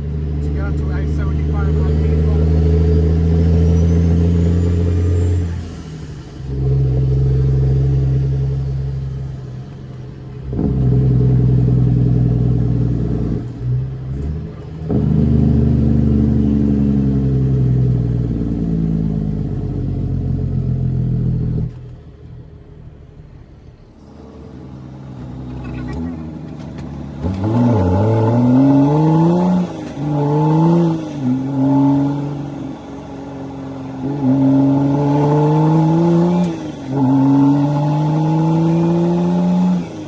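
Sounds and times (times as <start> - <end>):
diesel truck engine shifting gears: 0.0 - 40.0.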